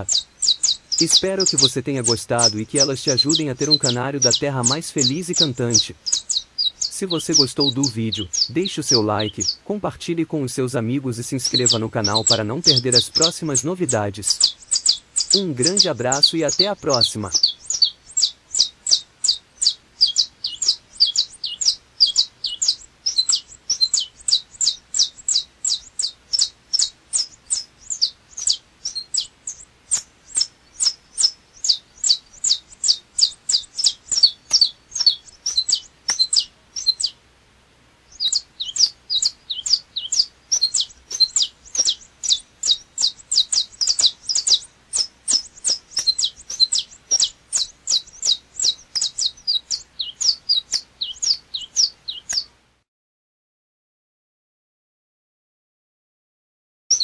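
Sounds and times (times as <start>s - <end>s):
finch chirping song: 0.0s - 37.3s, 38.0s - 52.6s.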